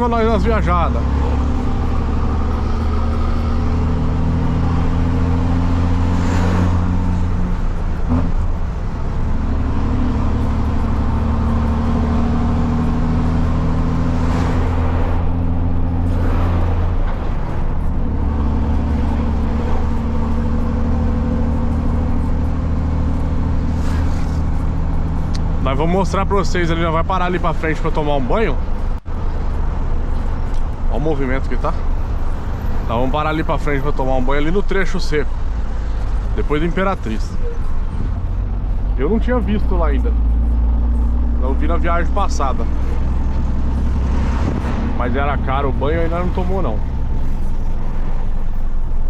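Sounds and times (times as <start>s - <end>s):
diesel truck engine pulling: 0.0s - 49.0s
gears shifting: 0.0s - 49.0s.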